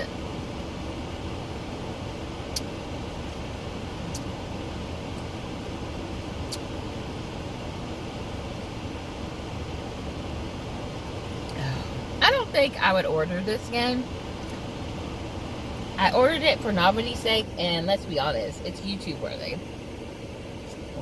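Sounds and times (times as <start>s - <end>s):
low rumble and hiss: 0.0s - 21.0s.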